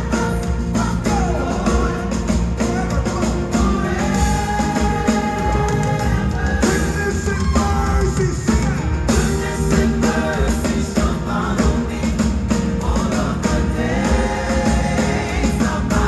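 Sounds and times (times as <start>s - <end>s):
drum kit: 0.0s - 16.0s
gospel band playing: 0.0s - 16.0s
heavy bass: 0.0s - 16.0s.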